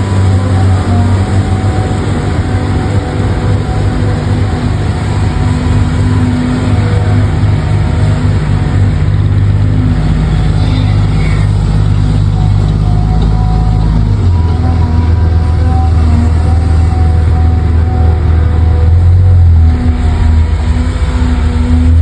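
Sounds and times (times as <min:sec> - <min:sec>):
truck engine drone: 0:00.0 - 0:22.0.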